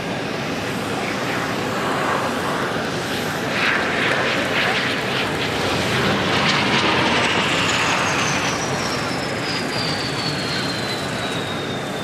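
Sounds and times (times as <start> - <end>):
jet engines rushing: 0.0 - 12.0
high jet whine falling in pitch: 2.1 - 12.0.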